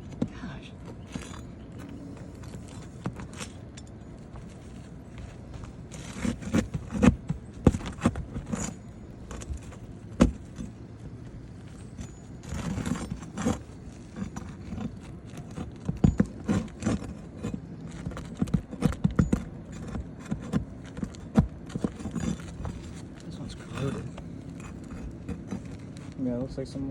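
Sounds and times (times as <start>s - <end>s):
metal clinks and knocks: 0.0s - 26.2s
tool scraping: 0.0s - 26.2s.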